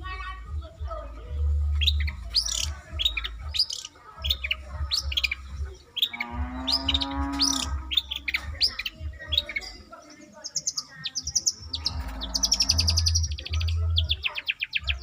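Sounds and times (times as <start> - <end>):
bird singing sharp chirps: 1.4 - 15.0.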